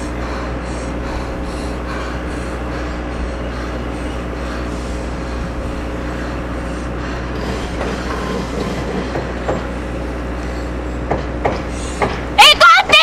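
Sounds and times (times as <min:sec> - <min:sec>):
low hum: 0:00.0 - 0:12.4
rumbling outdoor noise: 0:00.0 - 0:13.0.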